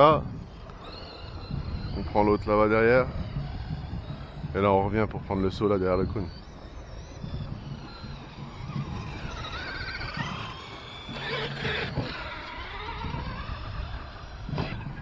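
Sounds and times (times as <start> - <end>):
rc truck motors whining: 0.0 - 15.0
truck rushing past: 0.0 - 15.0.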